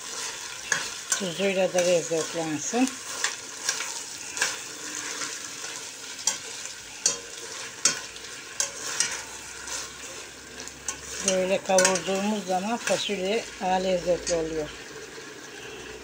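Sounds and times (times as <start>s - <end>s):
metal spoon scraping a pot: 0.0s - 13.3s
frying sizzle: 0.0s - 16.0s.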